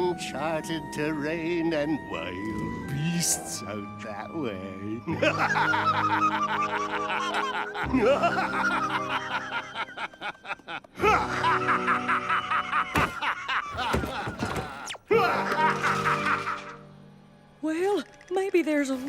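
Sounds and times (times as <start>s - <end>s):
background music score: 0.0s - 19.0s.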